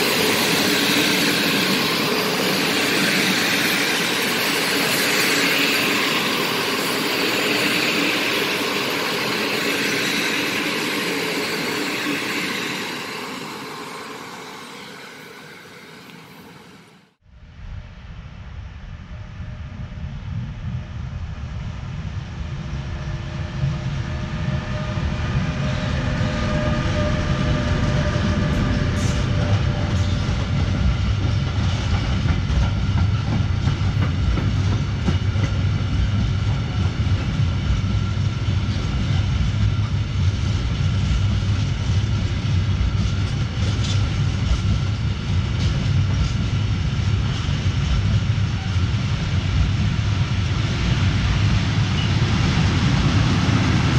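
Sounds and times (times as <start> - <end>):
train wheels rumbling on rails: 0.0 - 17.0, 19.1 - 53.9.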